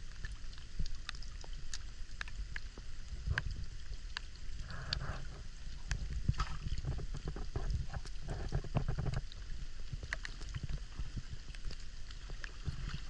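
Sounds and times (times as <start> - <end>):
small drips and clicks: 0.0 - 13.0
water lapping against canoe: 0.0 - 13.0.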